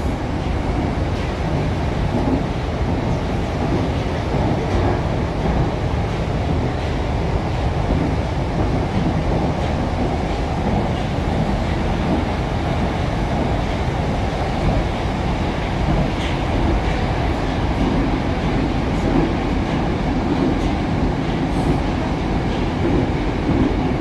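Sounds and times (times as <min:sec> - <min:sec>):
train interior rumble: 0:00.0 - 0:24.0.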